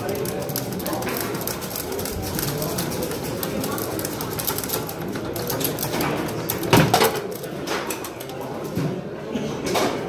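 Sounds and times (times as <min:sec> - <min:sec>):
foosball rods clacking and rattling: 0:00.0 - 0:08.7.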